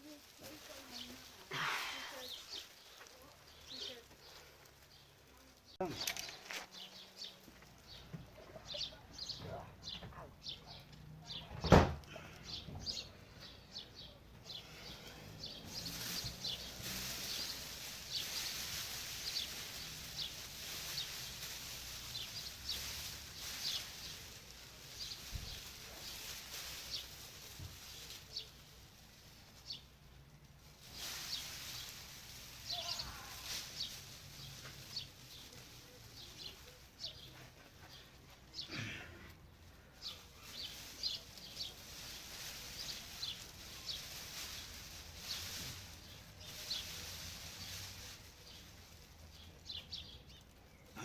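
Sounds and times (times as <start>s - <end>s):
high rustling hiss: 0.0s - 51.0s
small birds chirping: 0.0s - 51.0s.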